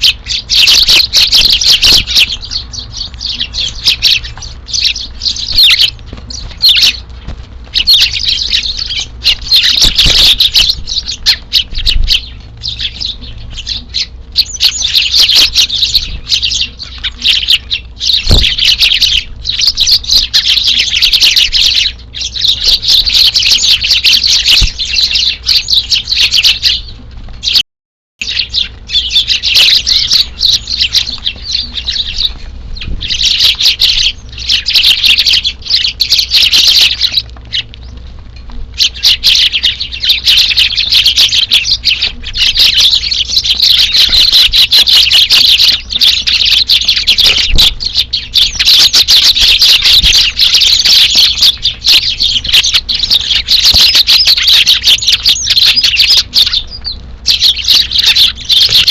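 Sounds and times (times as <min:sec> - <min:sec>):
sparrows chirping: 0:00.0 - 0:27.6, 0:28.2 - 0:58.9.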